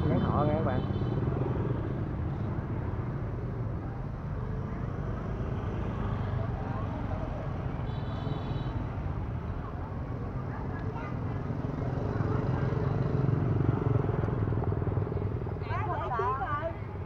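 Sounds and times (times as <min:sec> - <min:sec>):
motorbike traffic hum: 0:00.0 - 0:17.0.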